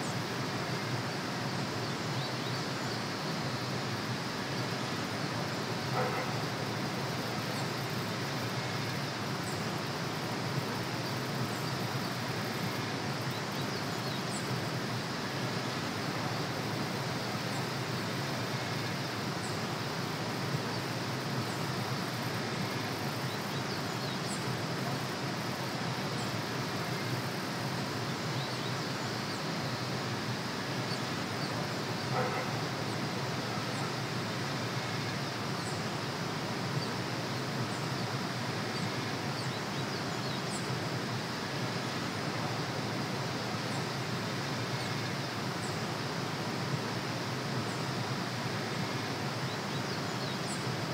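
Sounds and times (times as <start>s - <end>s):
outdoor ambient noise: 0.0s - 50.9s.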